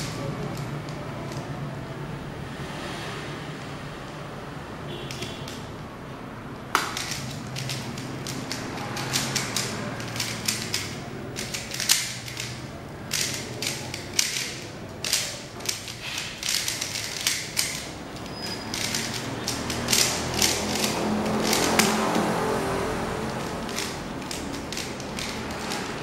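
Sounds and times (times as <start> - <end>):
puzzle cube clacking: 0.0 - 1.6, 6.6 - 26.0.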